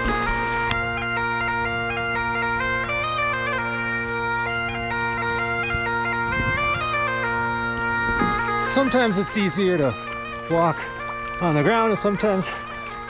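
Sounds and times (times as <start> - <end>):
bagpipe-style tune over drones: 0.0 - 13.0.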